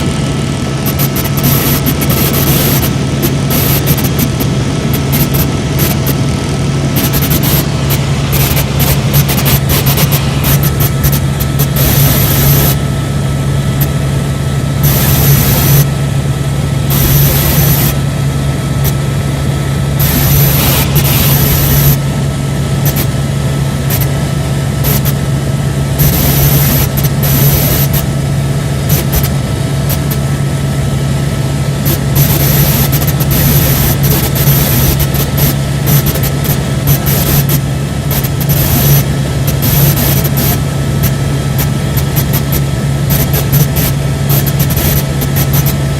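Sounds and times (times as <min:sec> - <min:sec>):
helicopter engine and rotors: 0:00.0 - 0:45.9.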